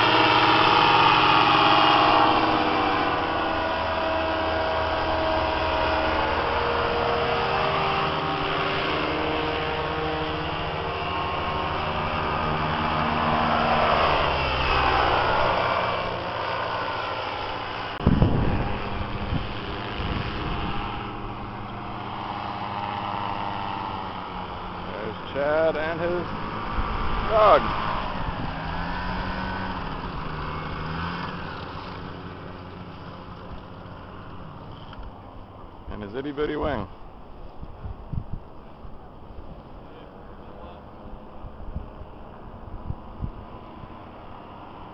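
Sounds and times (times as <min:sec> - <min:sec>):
paraglider engine and propeller: 0:00.0 - 0:44.9.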